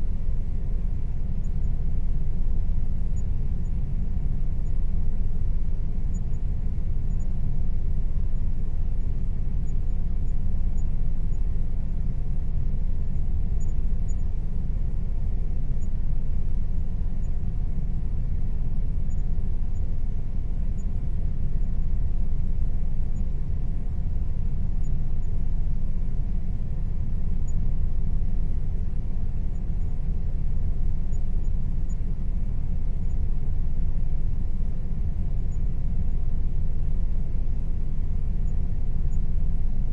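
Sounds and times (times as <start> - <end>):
faint steady tone: 0.0 - 39.9.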